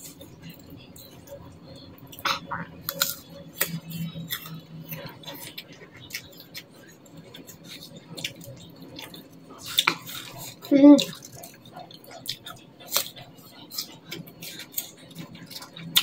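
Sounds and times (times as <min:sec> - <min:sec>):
crunching and chewing fruit: 0:00.0 - 0:16.0.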